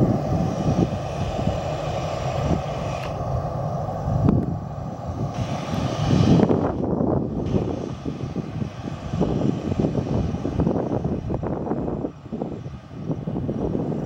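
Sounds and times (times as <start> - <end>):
airliner engines rumbling: 0.0 - 14.0.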